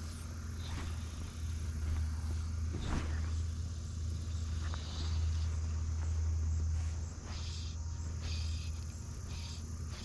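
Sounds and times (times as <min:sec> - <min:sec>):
insects chirping: 0:00.0 - 0:10.0
steady low rumble: 0:00.0 - 0:10.0.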